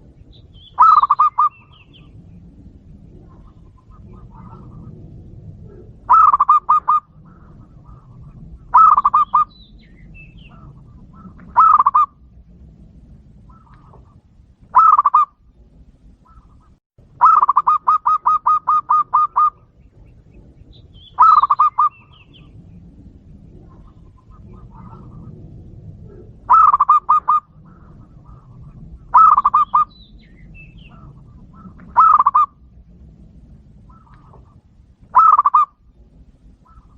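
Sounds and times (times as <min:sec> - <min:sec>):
dove cooing: 0:00.0 - 0:12.4, 0:13.2 - 0:15.4, 0:16.2 - 0:36.9.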